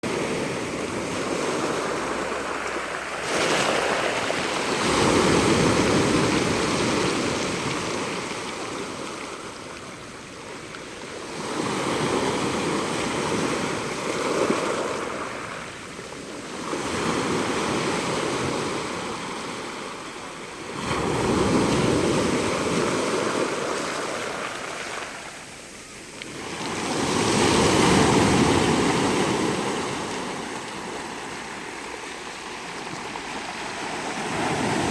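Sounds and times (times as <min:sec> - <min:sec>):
ocean surf breaking on shore: 0:00.0 - 0:34.9.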